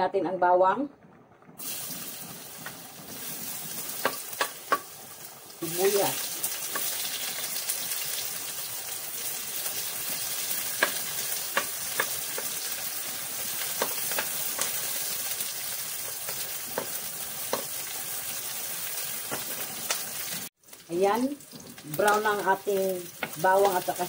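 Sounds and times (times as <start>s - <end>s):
garlic and onion sizzling in oil: 1.6s - 24.0s.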